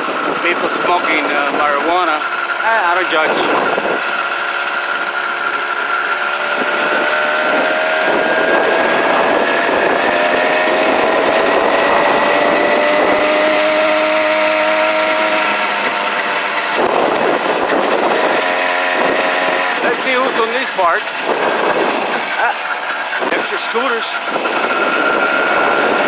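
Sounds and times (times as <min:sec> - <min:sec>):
small gasoline engine buzzing: 0:00.0 - 0:26.0.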